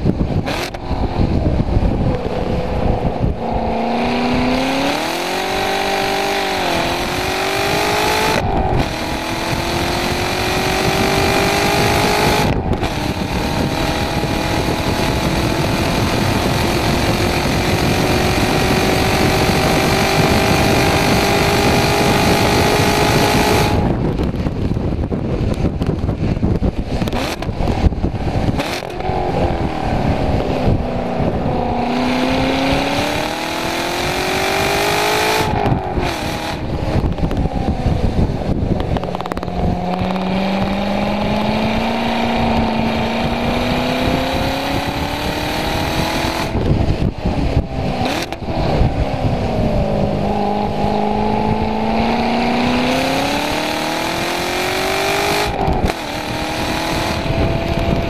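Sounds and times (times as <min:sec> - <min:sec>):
car engine accelerating: 0:00.0 - 0:58.0
exhaust crackles: 0:00.0 - 0:58.0.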